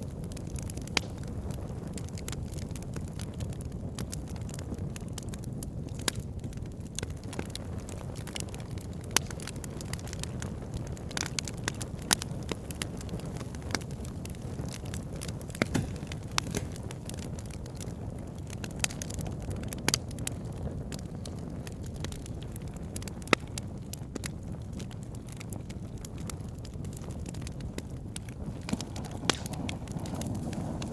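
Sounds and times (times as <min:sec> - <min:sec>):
fire crackling and popping: 0:00.0 - 0:30.9
fire low rumble: 0:00.0 - 0:30.9.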